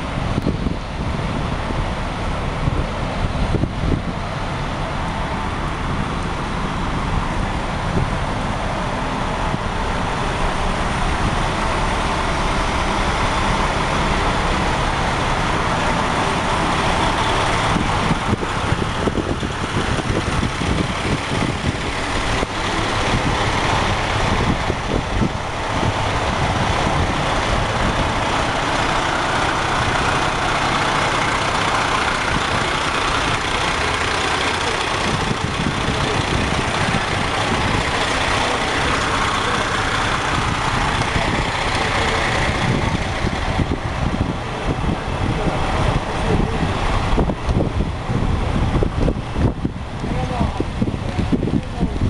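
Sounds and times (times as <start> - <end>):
diesel engines idling: 0.0 - 52.0
street traffic: 0.0 - 52.0.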